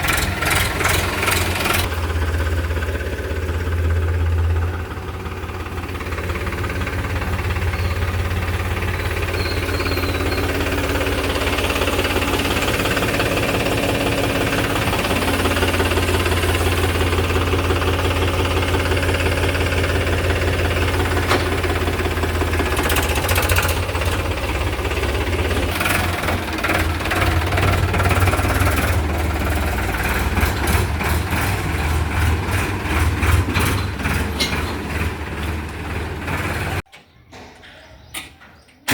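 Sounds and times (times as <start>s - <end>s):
tractor diesel engine droning: 0.0s - 38.9s.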